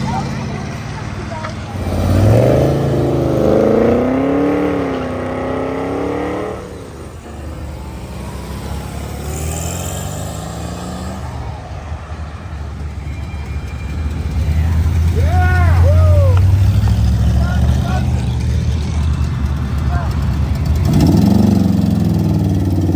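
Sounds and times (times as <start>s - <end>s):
car engines accelerating: 0.0s - 22.9s
deep engine rumble: 0.0s - 22.9s.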